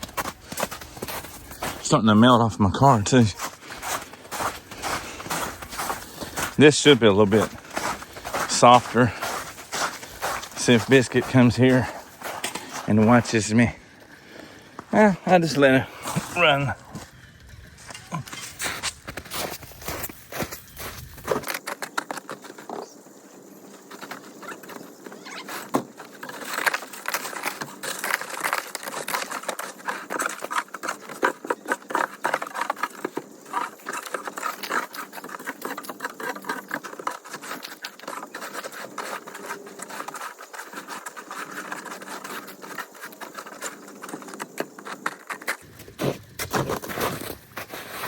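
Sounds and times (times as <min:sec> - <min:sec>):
snow shovel scraping ice: 0:00.0 - 0:17.0, 0:17.8 - 0:21.9, 0:25.2 - 0:48.0.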